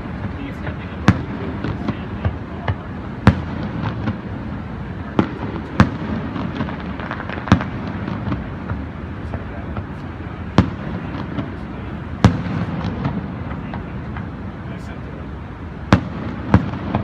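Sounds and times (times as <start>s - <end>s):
firework bangs: 0.0s - 17.0s
faint firework pops: 0.2s - 4.3s, 5.1s - 14.4s, 15.9s - 17.0s.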